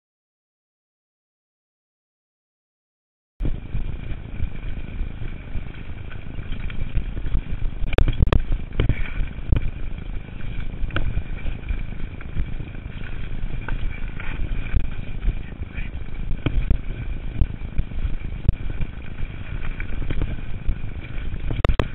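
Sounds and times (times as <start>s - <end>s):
bike knocks and rattles: 3.4s - 21.9s
wind and rolling rumble: 3.4s - 21.9s.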